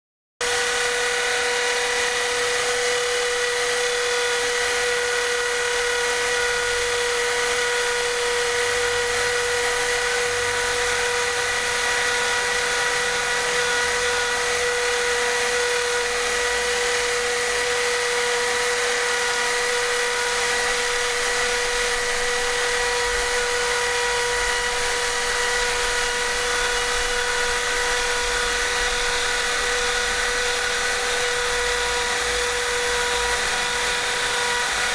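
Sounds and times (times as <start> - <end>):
spindle motor whining: 0.5 - 34.9.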